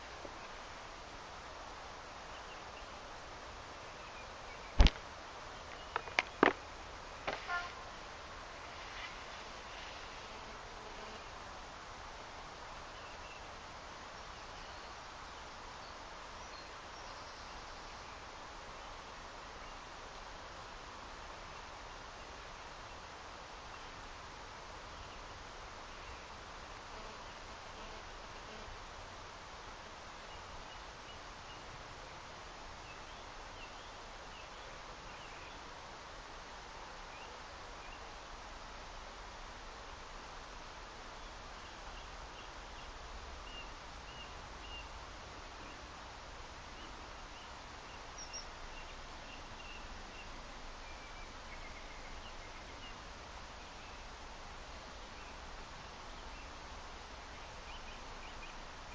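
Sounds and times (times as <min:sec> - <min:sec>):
faint outdoor hiss: 0:00.0 - 0:58.9.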